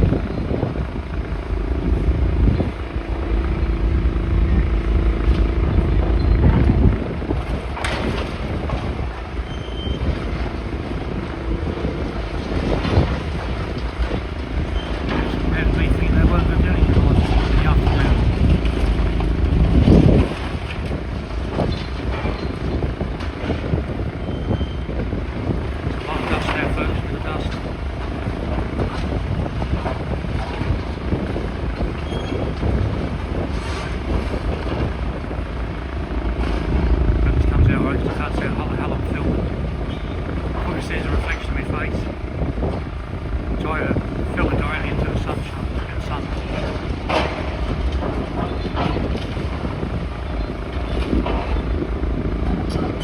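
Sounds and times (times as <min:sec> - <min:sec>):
background rumble: 0:00.0 - 0:53.0
wind buffeting microphone: 0:00.0 - 0:53.0.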